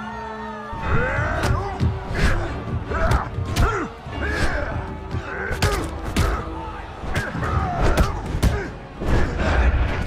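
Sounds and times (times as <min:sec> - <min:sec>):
fighters grunting: 0:00.8 - 0:10.0.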